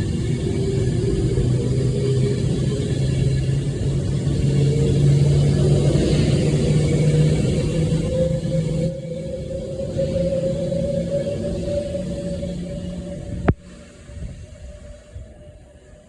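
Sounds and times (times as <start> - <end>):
electric train motors humming: 0.0 - 16.0
train rumble: 0.0 - 16.0.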